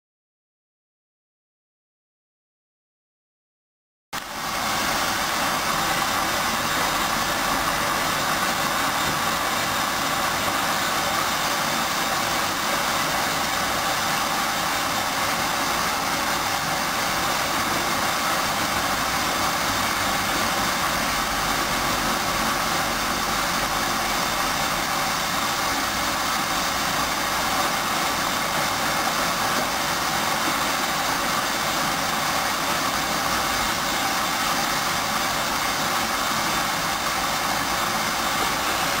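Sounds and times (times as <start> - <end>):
washing machine whirring: 4.2 - 39.0.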